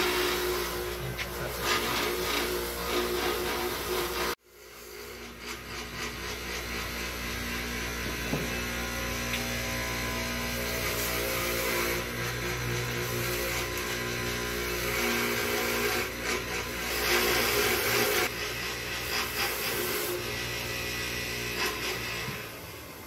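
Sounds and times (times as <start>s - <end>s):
power tool running: 0.0s - 23.0s.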